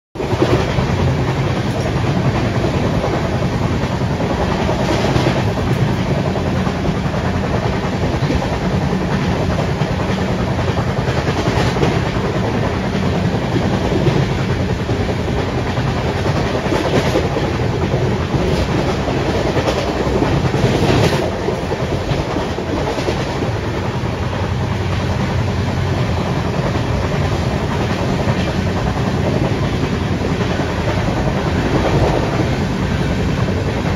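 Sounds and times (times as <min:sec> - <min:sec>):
train wheels rumbling on rails: 0:00.2 - 0:33.9.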